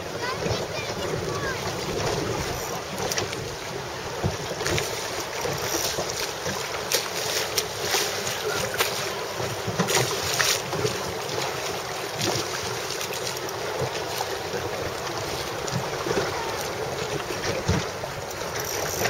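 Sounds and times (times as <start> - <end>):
water lapping around boat: 0.0 - 19.0.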